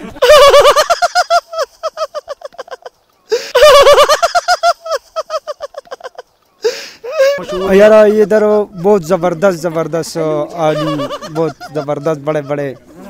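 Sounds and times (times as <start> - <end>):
high-pitched laughter: 0.0 - 9.5, 10.5 - 13.0.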